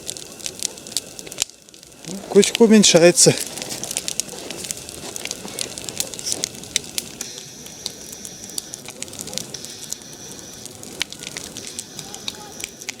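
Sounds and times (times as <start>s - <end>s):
bonfire crackling and popping: 0.0s - 13.0s
fire hiss: 0.0s - 13.0s.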